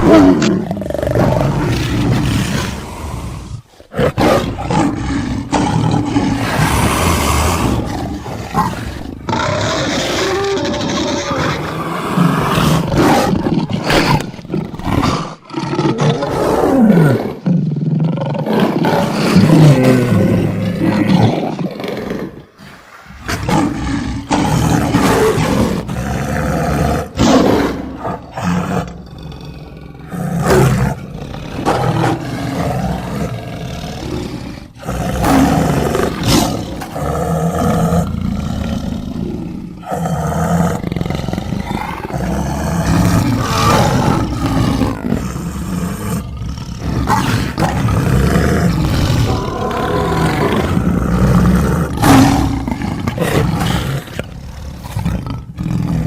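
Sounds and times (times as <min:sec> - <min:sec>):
big cat roars and snarls: 0:00.0 - 0:56.0.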